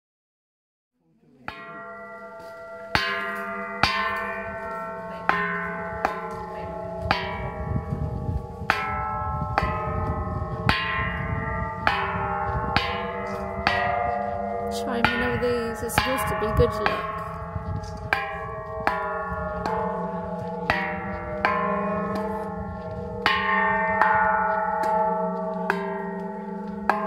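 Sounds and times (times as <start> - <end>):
metal bells struck and ringing: 1.5 - 27.0.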